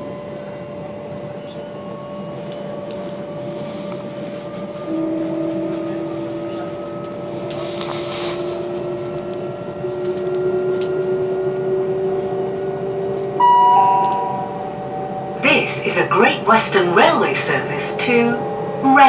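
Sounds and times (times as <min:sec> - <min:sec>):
electric train traction whine: 0:00.0 - 0:19.0
train running rumble: 0:00.0 - 0:19.0.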